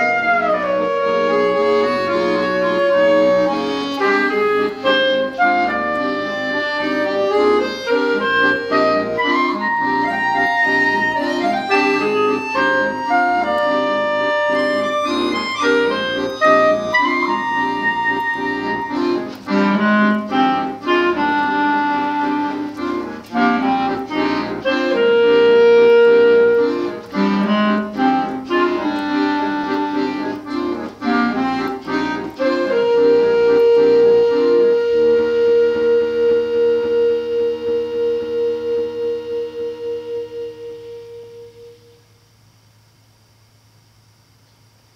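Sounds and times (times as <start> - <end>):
clarinet melody: 0.0 - 42.2
accordion chords: 0.0 - 42.4.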